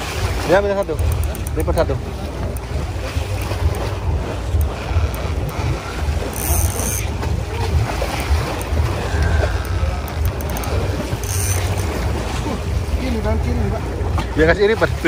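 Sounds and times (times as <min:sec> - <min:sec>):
sea noise: 0:00.0 - 0:15.0.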